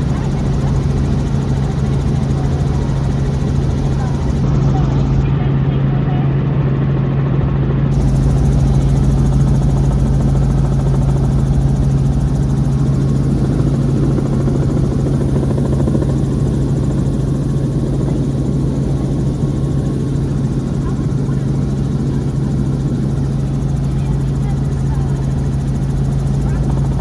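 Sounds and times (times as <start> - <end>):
helicopter engine and rotor hum: 0.0 - 27.0.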